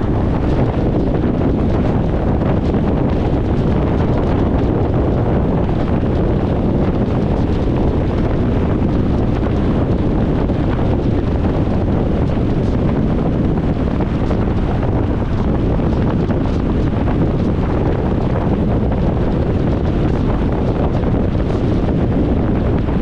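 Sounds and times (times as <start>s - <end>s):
car road noise inside cabin: 0.0s - 23.0s.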